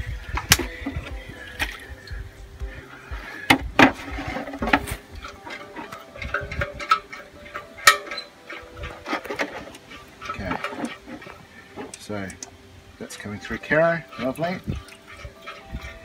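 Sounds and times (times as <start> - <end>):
steel fuel tank clunking: 0.0 - 2.2, 3.1 - 16.0.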